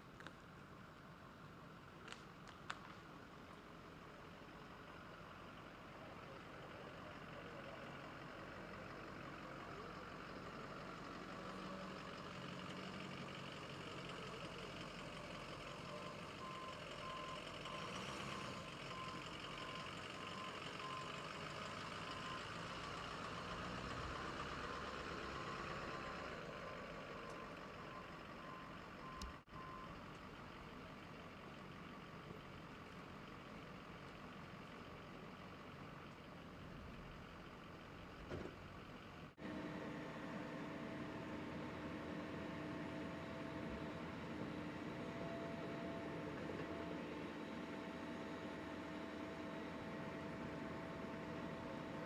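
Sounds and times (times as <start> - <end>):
heavy vehicle engine idling: 0.4 - 52.0.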